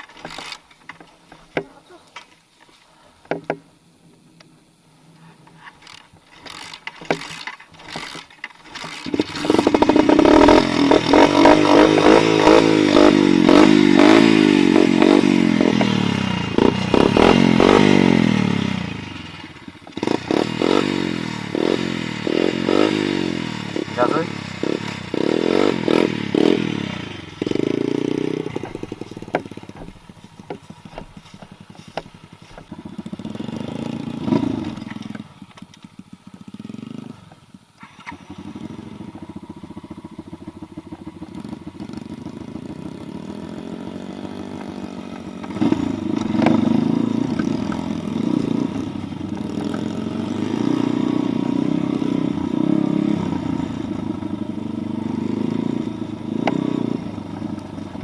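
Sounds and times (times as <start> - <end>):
pit bike engine revving: 0.0 - 0.7, 5.6 - 58.0.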